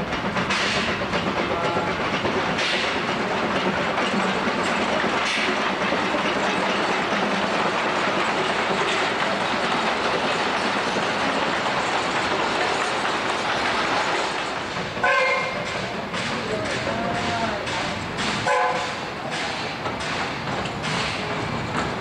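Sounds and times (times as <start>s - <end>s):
train wheels clattering over rail joints: 0.0s - 22.0s.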